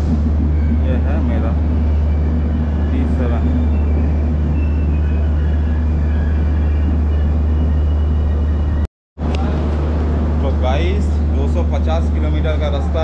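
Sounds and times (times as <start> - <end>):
faint station noise: 0.0 - 13.0
train low hum: 0.0 - 13.0.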